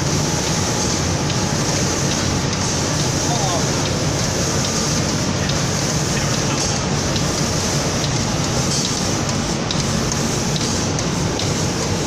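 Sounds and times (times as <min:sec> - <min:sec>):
spray guns hissing: 0:00.0 - 0:12.0.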